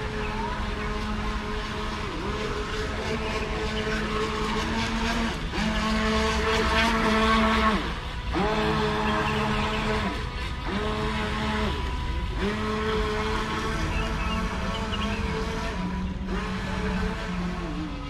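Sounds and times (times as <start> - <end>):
model boat motor whining: 0.0 - 18.0.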